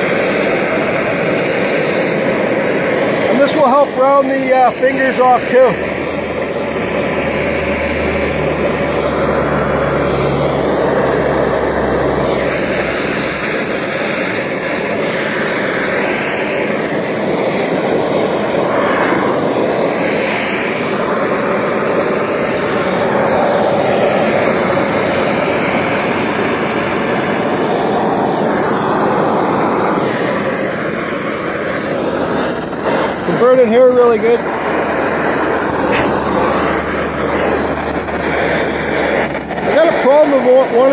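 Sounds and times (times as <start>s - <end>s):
propane torch flame burning: 0.0s - 40.9s.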